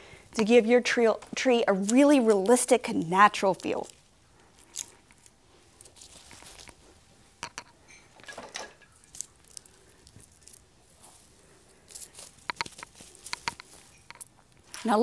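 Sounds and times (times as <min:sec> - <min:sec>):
plastic branches rustling: 0:00.0 - 0:15.0.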